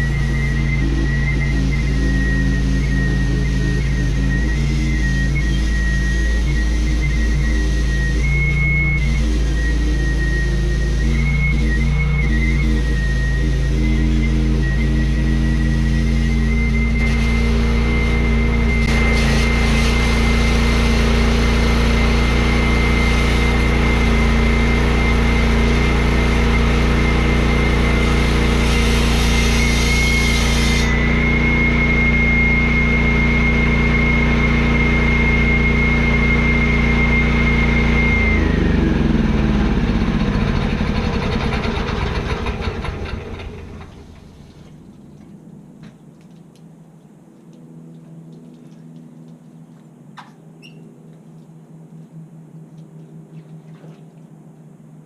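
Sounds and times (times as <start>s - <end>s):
concrete saw running: 0.0s - 44.7s
engine winding down: 0.0s - 45.8s
high blade whine: 0.0s - 45.9s, 46.7s - 55.0s.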